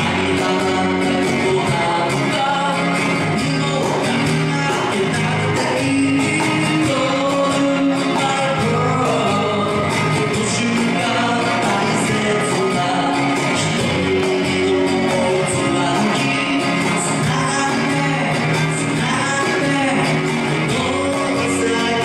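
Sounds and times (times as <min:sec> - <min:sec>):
acoustic guitar: 0:00.0 - 0:22.0
bass guitar: 0:00.0 - 0:22.0
person singing: 0:00.0 - 0:22.0.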